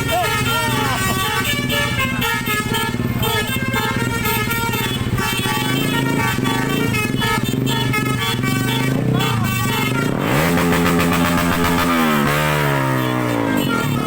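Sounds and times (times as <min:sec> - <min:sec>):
air horn melody: 0:00.0 - 0:14.0
engine running: 0:00.0 - 0:14.0.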